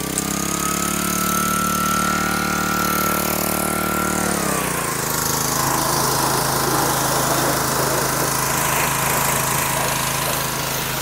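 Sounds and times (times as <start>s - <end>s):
pressure washer running: 0.0s - 11.0s.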